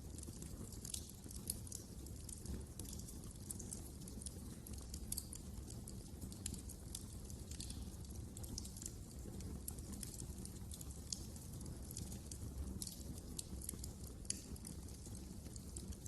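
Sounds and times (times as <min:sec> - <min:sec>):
low rumble of burning logs: 0:00.0 - 0:16.0
wood fire crackling: 0:00.0 - 0:16.0.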